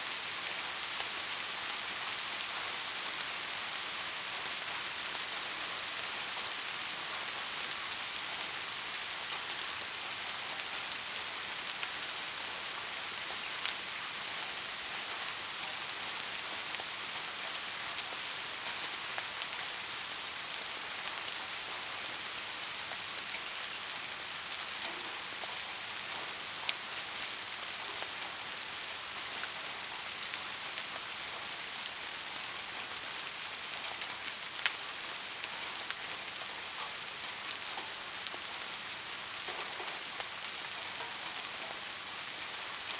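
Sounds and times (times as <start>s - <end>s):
soft rain falling: 0.0s - 42.9s.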